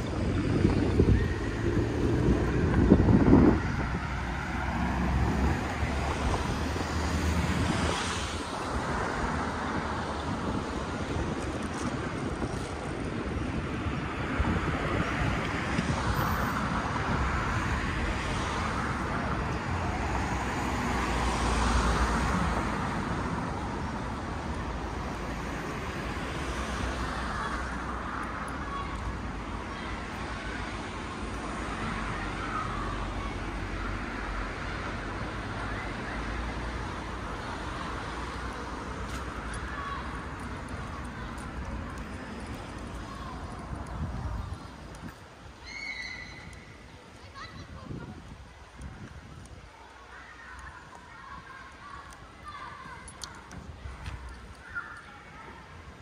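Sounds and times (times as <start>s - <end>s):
wind rumbling on microphone: 0.0s - 33.0s, 33.6s - 50.0s
cars passing on a road: 0.0s - 56.0s.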